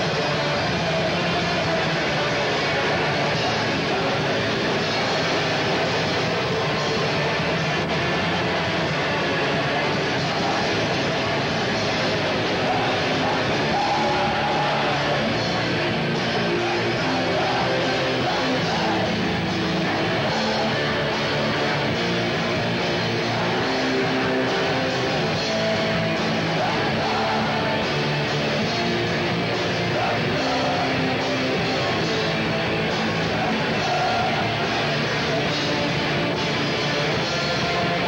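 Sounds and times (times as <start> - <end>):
electric guitar: 0.0 - 38.0
live rock band playing: 0.0 - 38.0.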